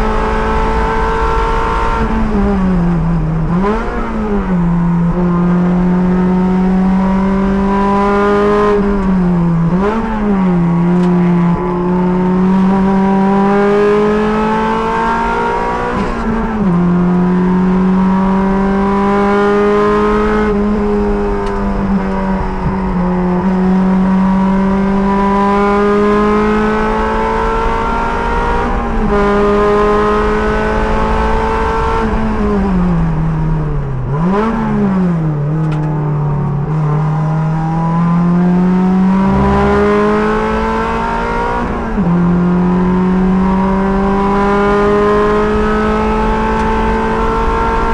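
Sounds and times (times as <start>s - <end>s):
sports car engine under load: 0.0s - 47.9s.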